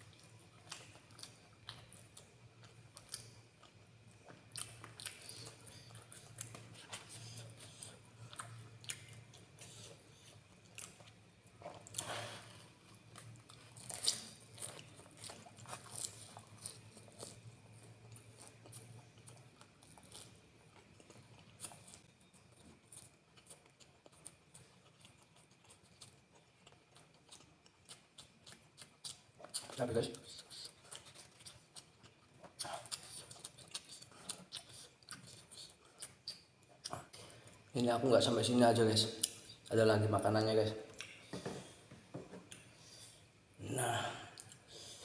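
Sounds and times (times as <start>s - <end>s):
person chewing noodles: 0.0s - 37.7s.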